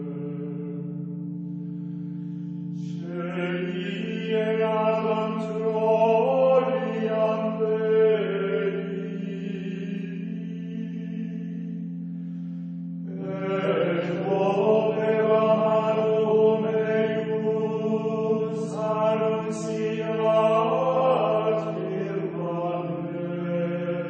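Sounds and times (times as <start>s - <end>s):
slow chanting voices: 0.0s - 24.0s
steady held drone: 0.0s - 24.0s.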